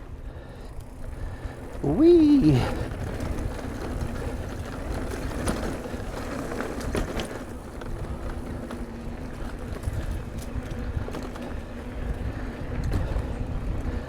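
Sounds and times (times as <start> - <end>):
bike rattling and clicking: 0.0 - 14.0
tyre and wind rumble: 0.0 - 14.0.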